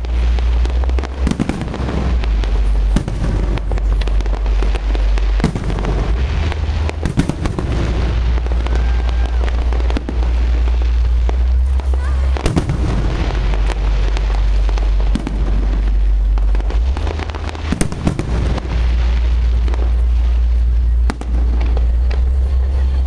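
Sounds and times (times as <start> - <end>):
firework bangs and crackles: 0.0 - 23.0
steady low rumble: 0.0 - 23.0.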